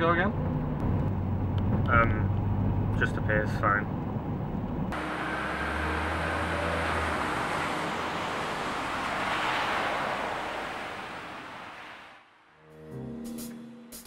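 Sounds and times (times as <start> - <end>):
car engine hum: 0.0 - 12.3
wet tyre road noise: 0.3 - 12.6.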